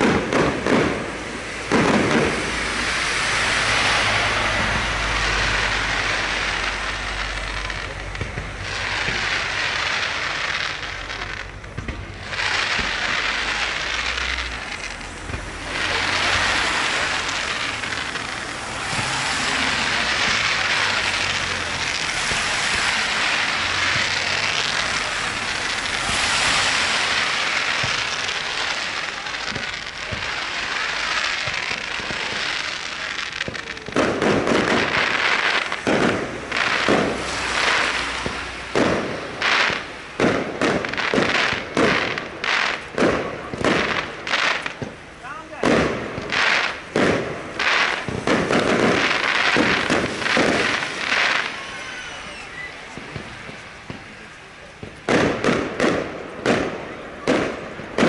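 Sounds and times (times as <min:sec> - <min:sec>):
fireworks crackling: 0:00.0 - 0:58.0
loud fireworks bangs: 0:00.0 - 0:58.0.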